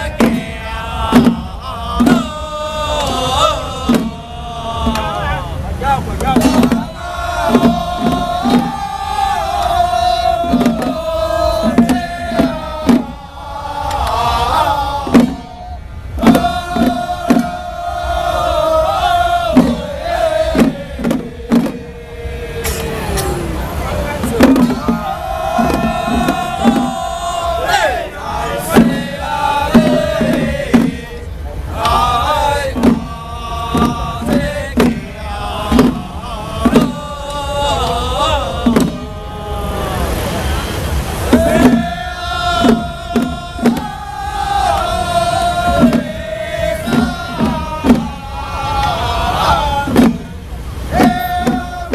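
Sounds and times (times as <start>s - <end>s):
handheld drum strikes: 0.0s - 5.2s, 6.2s - 17.8s, 18.8s - 23.5s, 24.2s - 27.4s, 28.6s - 31.1s, 31.8s - 39.2s, 41.2s - 51.9s
group chanting in unison: 0.0s - 51.9s.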